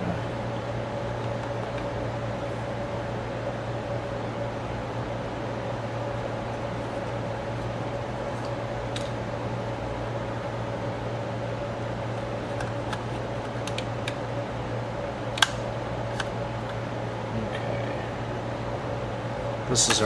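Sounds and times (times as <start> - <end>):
steady fan hum: 0.0 - 20.0.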